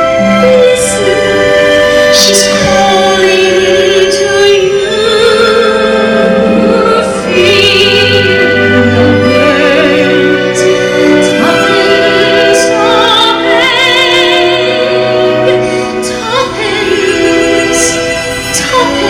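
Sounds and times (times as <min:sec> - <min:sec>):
operatic singing: 0:00.0 - 0:19.0
orchestra playing: 0:00.0 - 0:19.0.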